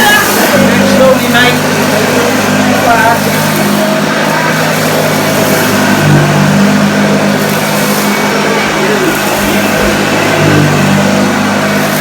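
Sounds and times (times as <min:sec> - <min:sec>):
vacuum cleaner running on carpet: 0:00.0 - 0:12.0.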